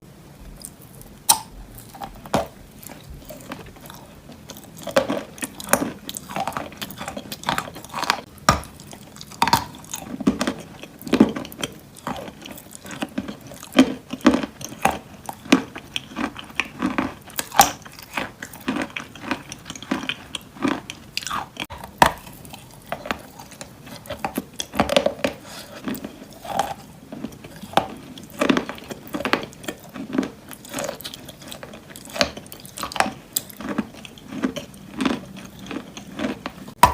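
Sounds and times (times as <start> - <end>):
wet mouth sounds: 0.4 - 36.9
chalk crunching while chewed: 0.5 - 36.9.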